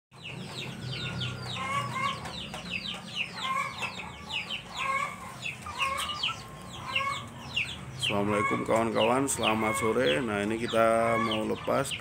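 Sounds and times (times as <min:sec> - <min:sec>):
chickens clucking: 0:00.2 - 0:12.0.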